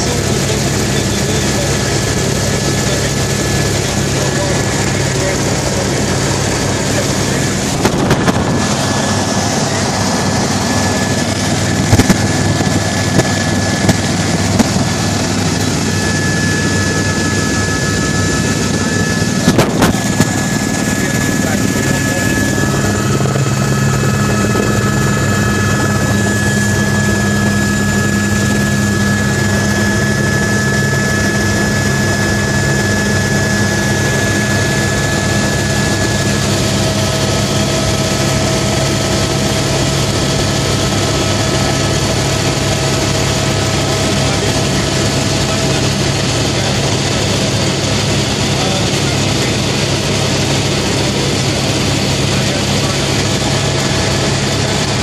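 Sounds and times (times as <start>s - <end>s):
helicopter engine and rotor noise: 0.0s - 55.0s.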